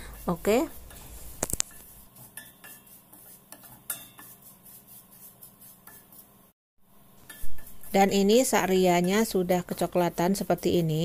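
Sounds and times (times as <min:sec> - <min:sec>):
spatula scraping pot: 0:00.1 - 0:06.4, 0:07.2 - 0:11.0.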